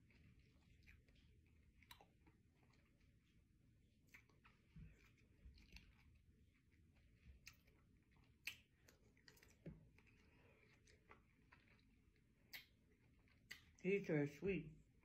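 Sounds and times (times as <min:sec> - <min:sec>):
person chewing with mouth clicks: 0:00.0 - 0:03.3, 0:03.9 - 0:13.8.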